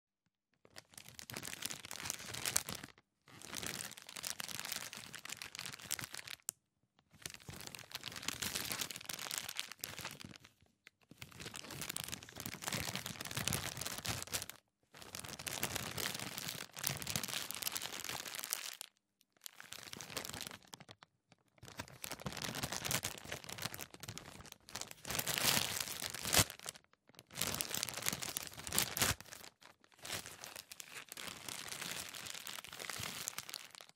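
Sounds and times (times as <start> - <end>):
plastic bag crumpling: 0.7 - 6.4, 7.2 - 10.5, 11.2 - 33.9.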